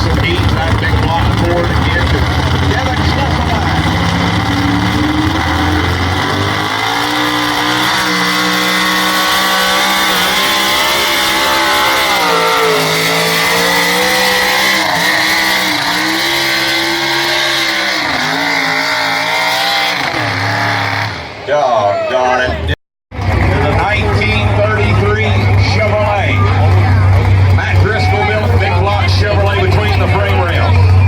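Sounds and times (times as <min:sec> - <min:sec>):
engine at full throttle under load: 0:00.0 - 0:21.6, 0:23.1 - 0:31.0.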